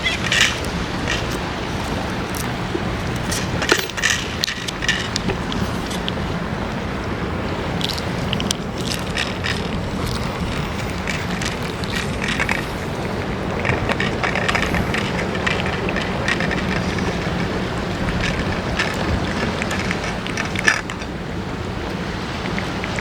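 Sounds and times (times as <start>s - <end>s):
short crackles: 0.0s - 6.3s, 7.7s - 21.1s
wind buffeting microphone: 0.0s - 23.0s.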